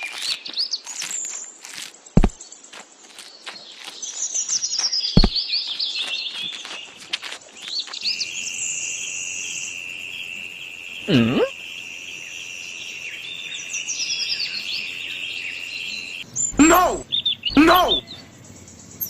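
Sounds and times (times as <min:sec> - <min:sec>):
birds chirping and trilling: 0:02.3 - 0:19.0.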